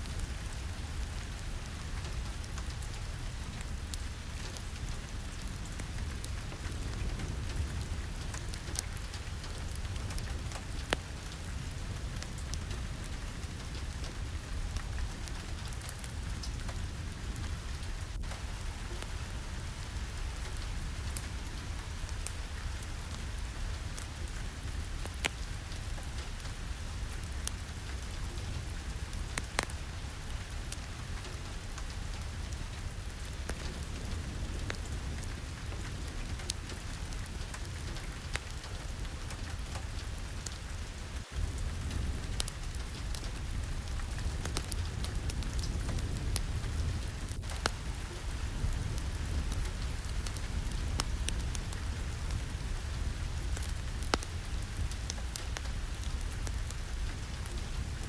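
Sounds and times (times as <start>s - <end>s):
fireplace crackling: 0.0s - 58.0s
steady rain: 0.0s - 58.0s.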